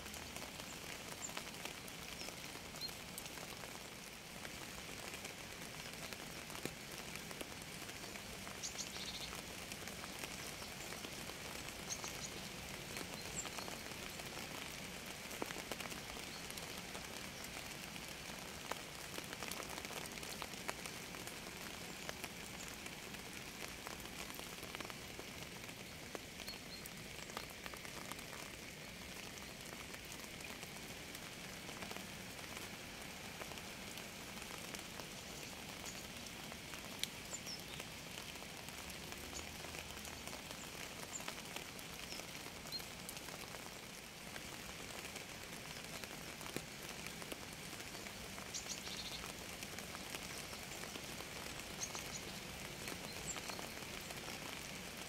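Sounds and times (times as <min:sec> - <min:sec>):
raindrops ticking close by: 0:00.0 - 0:55.0
steady rain falling: 0:00.0 - 0:55.0.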